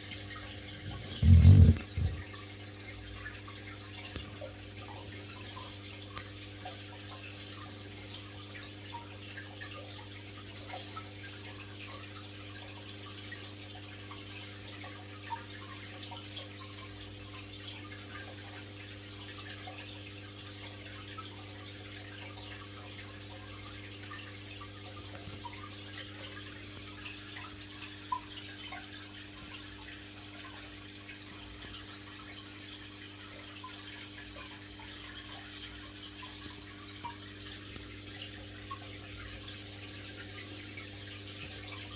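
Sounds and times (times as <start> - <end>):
water trickling and bubbling: 0.0 - 41.9.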